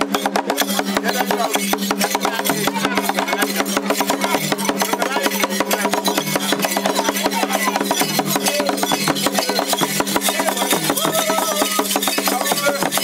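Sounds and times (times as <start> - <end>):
fast ticking percussion: 0.0 - 13.0.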